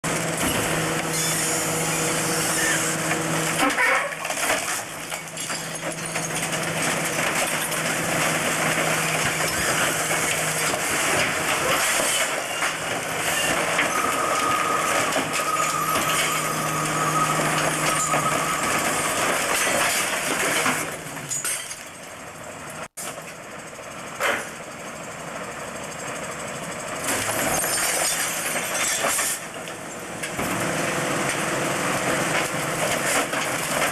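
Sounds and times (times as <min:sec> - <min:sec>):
engine and hydraulic drone: 0:00.1 - 0:21.4, 0:22.0 - 0:33.9.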